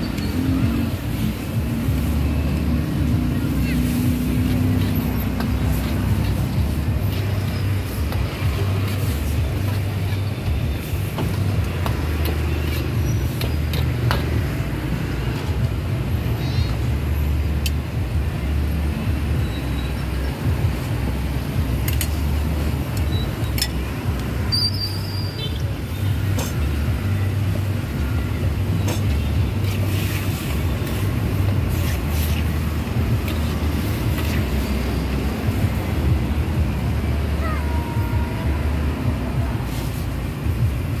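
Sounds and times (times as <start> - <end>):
traffic engine rumble: 0.0 - 41.0.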